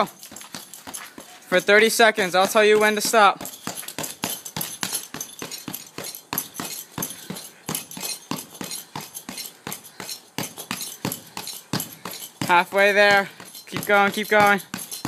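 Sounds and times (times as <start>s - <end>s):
punching bag being struck: 0.2s - 15.0s.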